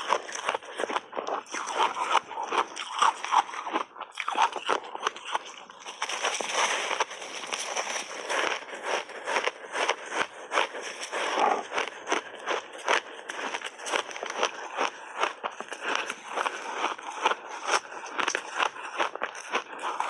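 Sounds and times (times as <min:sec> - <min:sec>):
crunchy ice chewing: 0:00.0 - 0:20.0.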